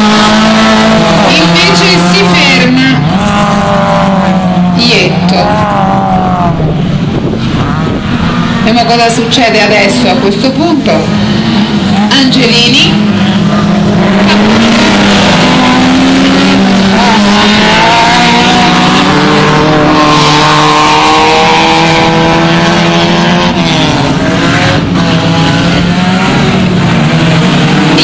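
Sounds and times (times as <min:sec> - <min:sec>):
race car engines running hard: 0:00.0 - 0:28.0.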